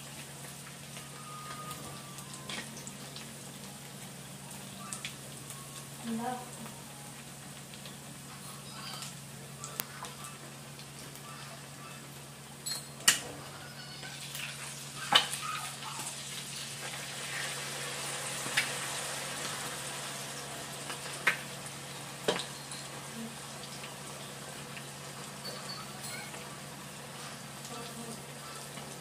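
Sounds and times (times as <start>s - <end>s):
fritters frying in oil: 0.0s - 29.0s.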